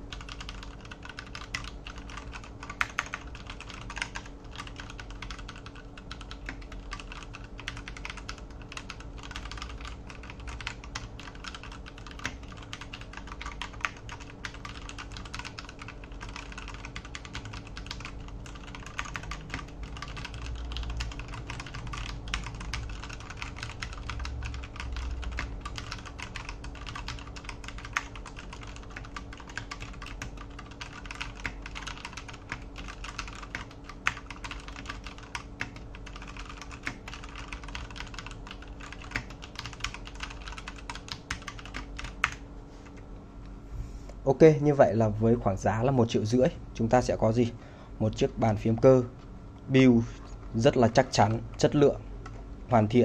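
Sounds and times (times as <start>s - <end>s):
mechanical keyboard typing: 0.0s - 42.4s.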